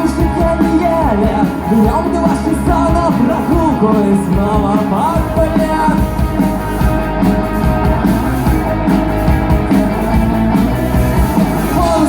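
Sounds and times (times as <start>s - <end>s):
electric guitar: 0.0s - 12.0s
rock band instrumental: 0.0s - 12.0s.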